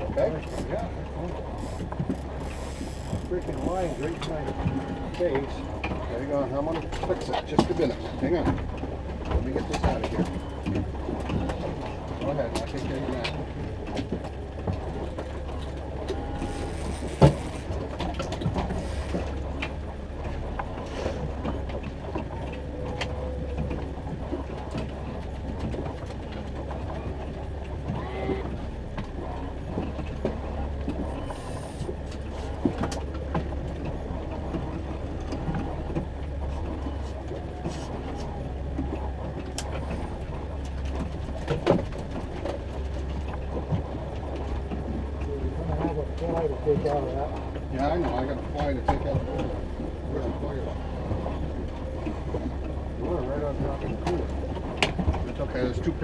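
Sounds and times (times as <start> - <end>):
boat motor humming: 0.0 - 56.0.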